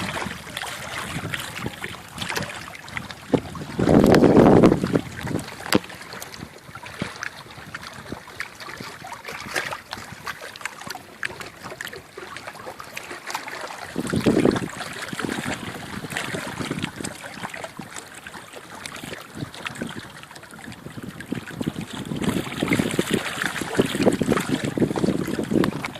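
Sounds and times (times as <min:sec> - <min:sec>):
wind buffeting microphone: 0:00.0 - 0:12.0, 0:13.2 - 0:25.9
river water lapping and splashing: 0:00.0 - 0:25.9.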